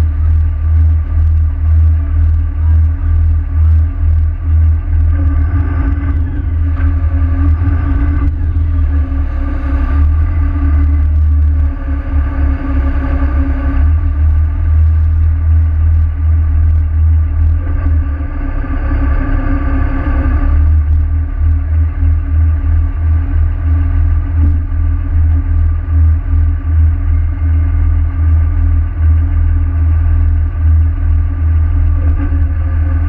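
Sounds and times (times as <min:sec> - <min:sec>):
boat engines rumbling: 0:00.0 - 0:33.0.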